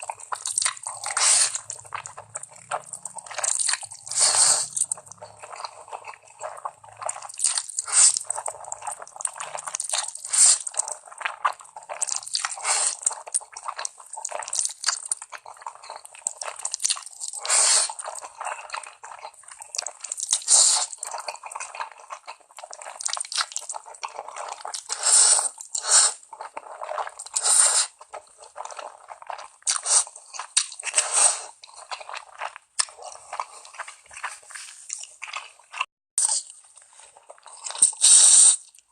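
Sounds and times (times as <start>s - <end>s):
noodle slurping: 0.0s - 14.6s, 17.3s - 38.8s
person chewing: 0.0s - 38.9s.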